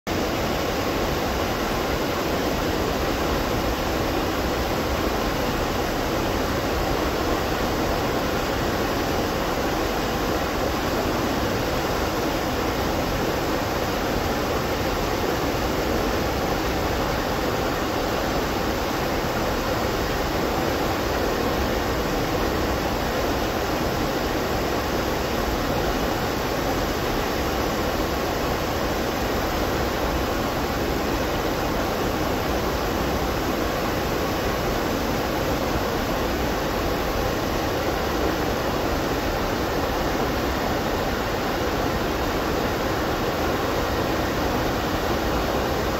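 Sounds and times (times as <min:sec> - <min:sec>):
water rushing over dam spillway: 0:00.1 - 0:45.9.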